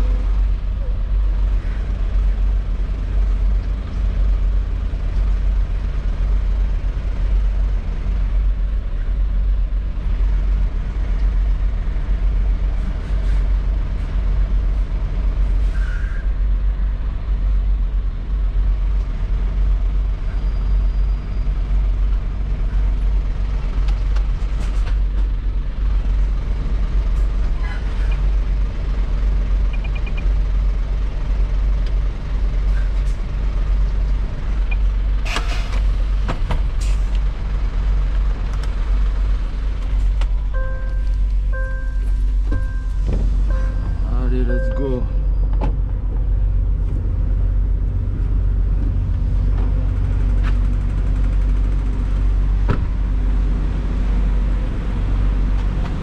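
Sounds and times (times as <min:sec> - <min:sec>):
diesel engine low rumble: 0:00.0 - 0:56.0.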